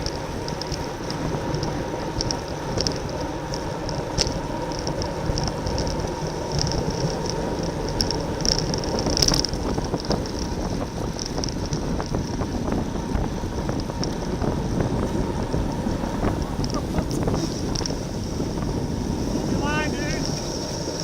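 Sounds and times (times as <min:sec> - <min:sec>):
road noise rumble: 0:00.0 - 0:21.0
wind rushing over microphone: 0:00.0 - 0:21.0.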